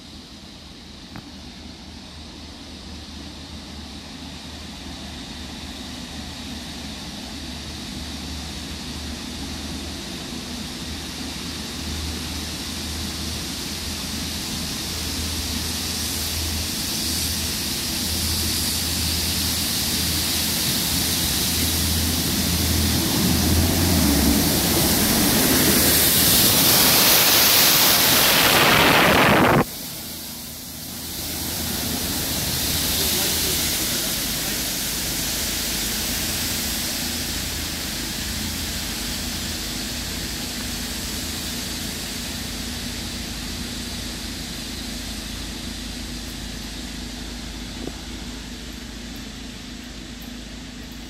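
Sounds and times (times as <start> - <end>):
diesel engine drone: 0.0 - 51.0
train rushing past: 0.9 - 51.0.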